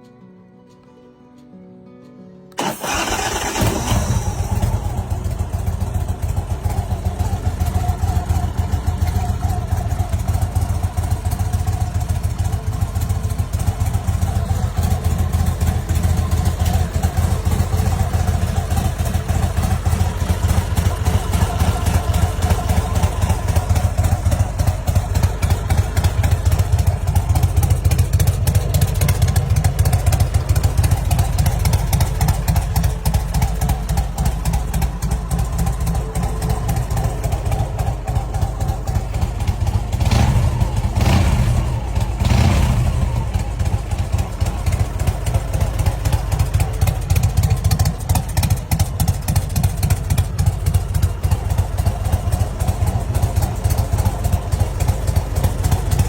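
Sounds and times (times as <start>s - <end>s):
motorcycle engine idling: 2.6s - 56.0s.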